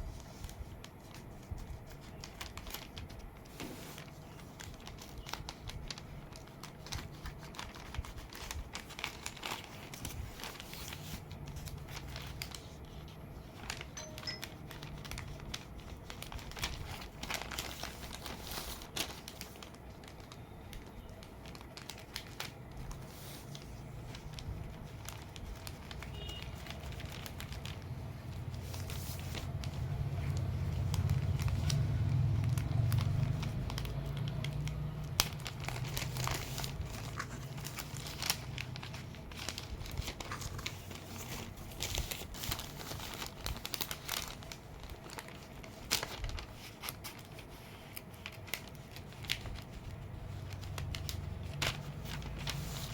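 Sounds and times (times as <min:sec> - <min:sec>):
wrapping crinkling and tearing: 0:00.0 - 0:52.9.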